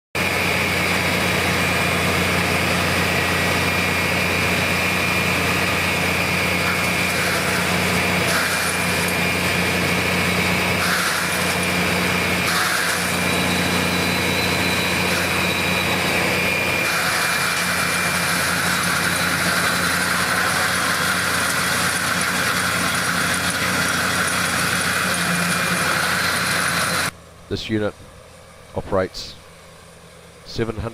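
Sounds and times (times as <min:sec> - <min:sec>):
diesel engine running: 0:00.2 - 0:30.9
high whine: 0:00.2 - 0:30.9.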